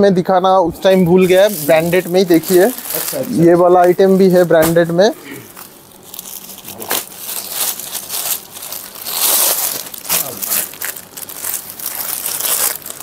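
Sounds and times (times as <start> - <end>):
plastic bag crinkling: 0.9 - 13.0.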